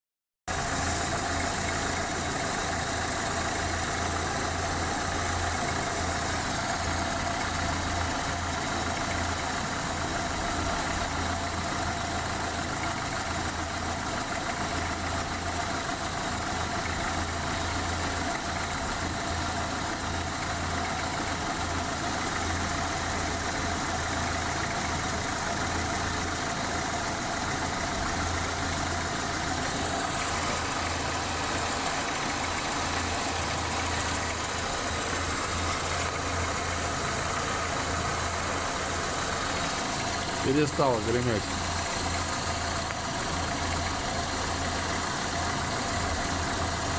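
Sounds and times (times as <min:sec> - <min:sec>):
car engine idling with knock: 0:00.5 - 0:46.9.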